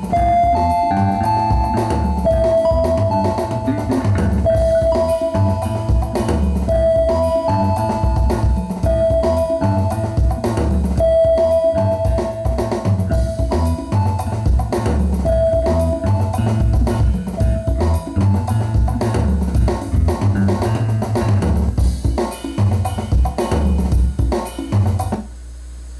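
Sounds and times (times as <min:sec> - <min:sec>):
strong bass line: 0:00.0 - 0:22.0
band music: 0:00.0 - 0:25.2
drum kit beat: 0:00.0 - 0:25.3.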